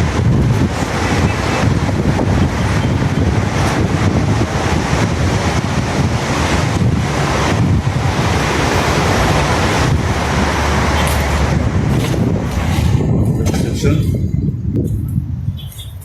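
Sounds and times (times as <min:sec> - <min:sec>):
steady outdoor roar: 0:00.0 - 0:16.0
wind buffeting microphone: 0:00.0 - 0:16.0.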